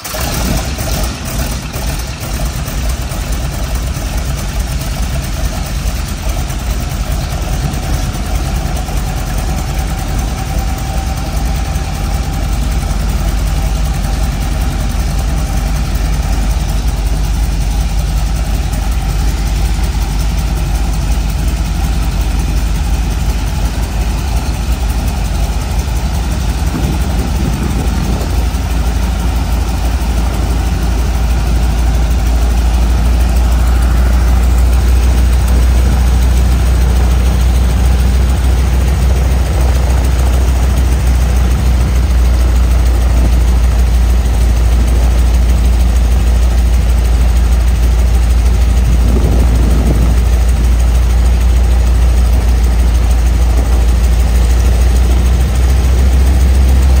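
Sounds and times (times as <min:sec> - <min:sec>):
propeller plane engine idling: 0:00.0 - 0:57.0.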